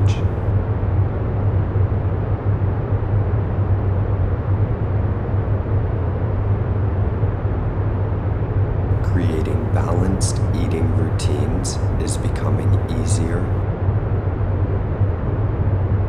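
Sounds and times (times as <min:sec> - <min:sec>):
low rumble with hum: 0:00.0 - 0:16.0.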